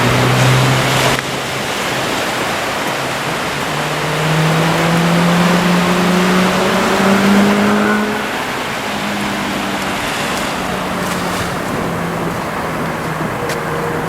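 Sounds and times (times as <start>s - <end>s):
motor engine droning: 0.0s - 14.0s
surf washing: 0.0s - 14.0s.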